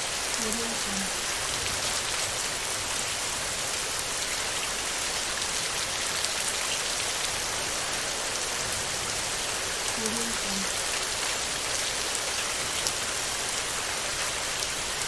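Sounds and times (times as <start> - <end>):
heavy rain on a metal roof: 0.0 - 15.0.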